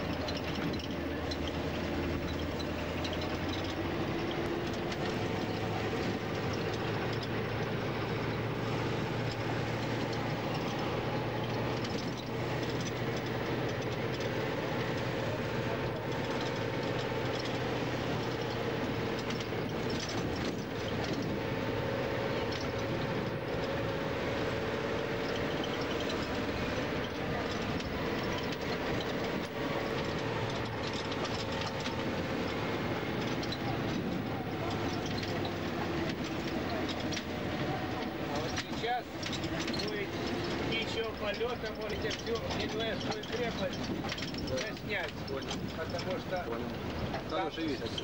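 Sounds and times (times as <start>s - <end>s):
bus engine running: 0.0s - 48.0s
road noise: 0.0s - 48.0s.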